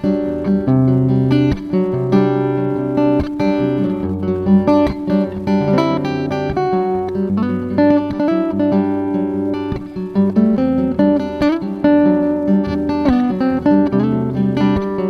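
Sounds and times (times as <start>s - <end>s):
fingerstyle acoustic guitar: 0.0s - 15.0s
looped guitar bass notes: 0.0s - 15.0s.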